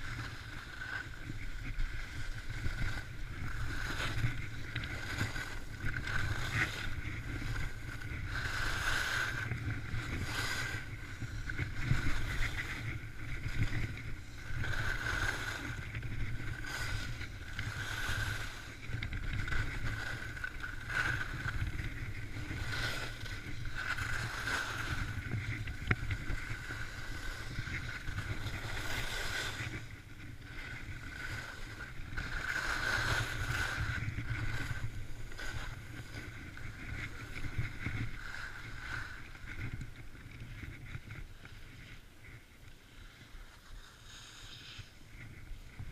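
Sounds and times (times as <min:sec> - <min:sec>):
skis scraping on snow: 0:00.0 - 0:45.9
wind rumble on microphone: 0:00.0 - 0:45.9.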